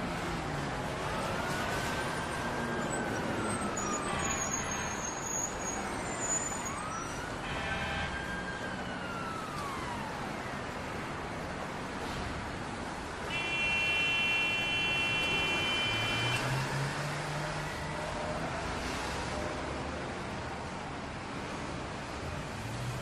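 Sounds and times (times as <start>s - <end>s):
emergency vehicle siren wailing: 0.0s - 11.9s, 13.2s - 20.1s
city traffic noise: 0.0s - 23.0s.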